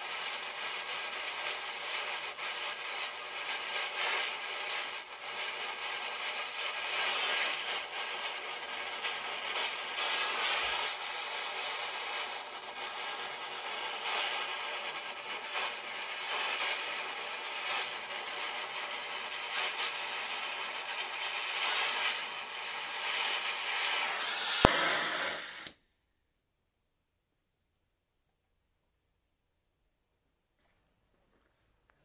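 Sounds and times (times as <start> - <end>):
welding torch hissing: 0.0 - 25.8.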